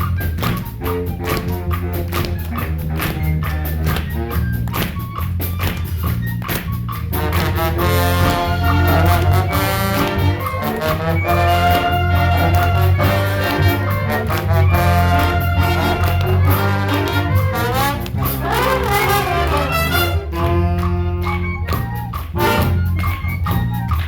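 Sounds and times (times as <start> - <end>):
steady bass line: 0.0 - 24.0
wind band playing: 0.0 - 24.0.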